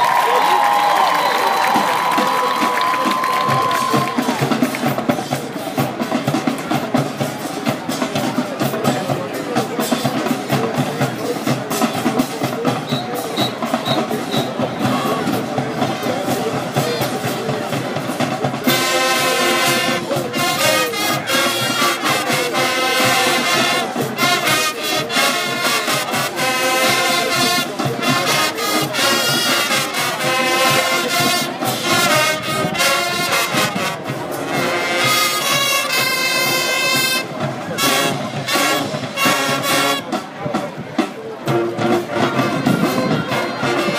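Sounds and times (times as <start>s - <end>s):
drums: 0.0s - 43.9s
marching band playing: 0.0s - 43.9s
trumpets and trombones: 3.8s - 43.9s.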